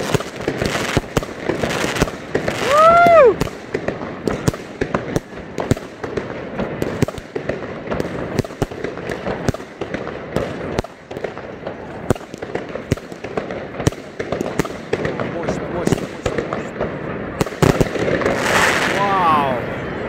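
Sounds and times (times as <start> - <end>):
firecrackers crackling: 0.0 - 20.0
fireworks bangs: 0.0 - 20.0.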